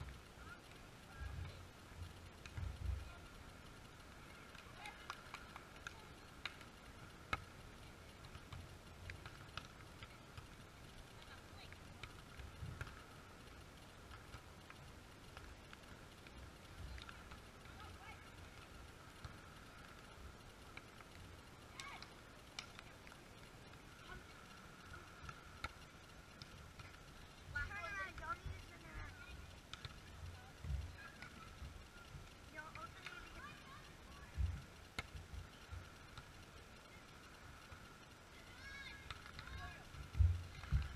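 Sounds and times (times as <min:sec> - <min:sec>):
faint outdoor background: 0:00.0 - 0:40.9
faint steady tone: 0:00.0 - 0:40.9.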